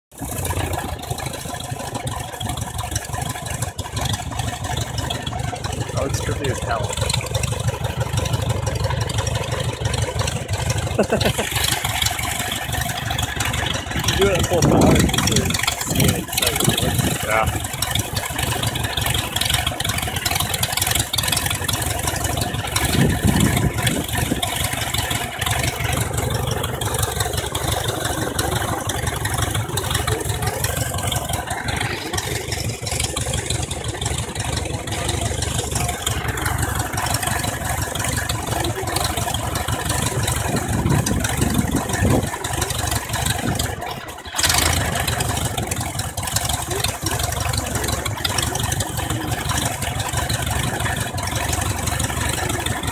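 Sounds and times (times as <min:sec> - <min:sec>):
aircraft engine running: 0:00.1 - 0:52.9.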